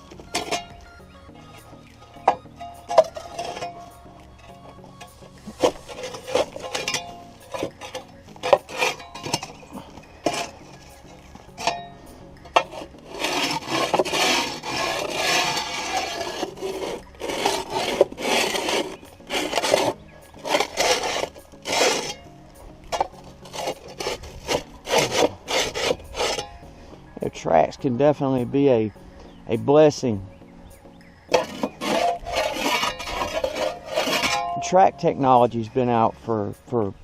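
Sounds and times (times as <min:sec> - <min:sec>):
tool scraping dirt: 0:00.0 - 0:28.5, 0:31.3 - 0:36.8
background music: 0:00.0 - 0:37.0.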